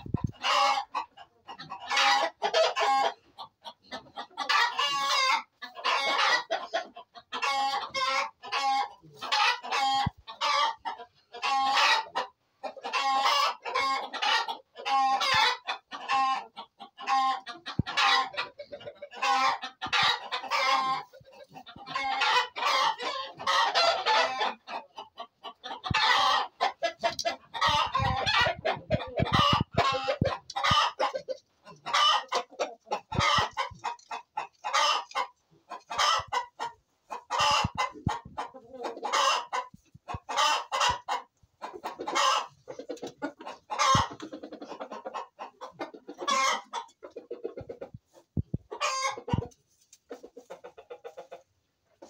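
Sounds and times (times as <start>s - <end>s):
hens clucking: 0.0s - 52.0s.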